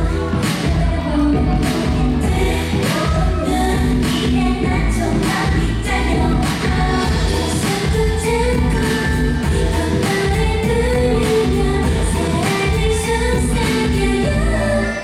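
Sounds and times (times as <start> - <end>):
pop dance song with female vocals: 0.0 - 15.0.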